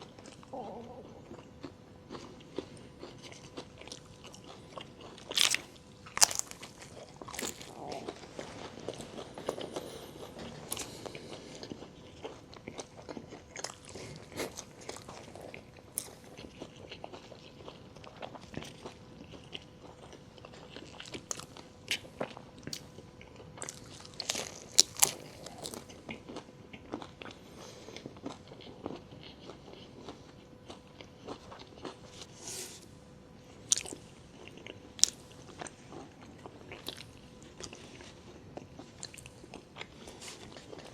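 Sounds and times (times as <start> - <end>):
faint steady hum: 0.0 - 40.9
soft chewing: 0.0 - 40.9
crisp food crunching: 0.2 - 27.4, 33.6 - 40.9.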